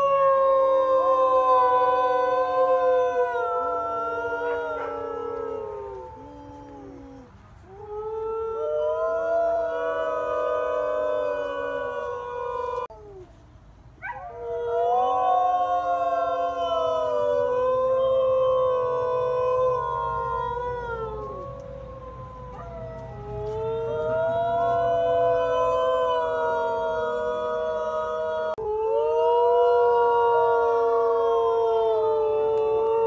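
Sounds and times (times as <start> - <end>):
wolves howling in chorus: 0.0 - 12.9, 14.0 - 33.0.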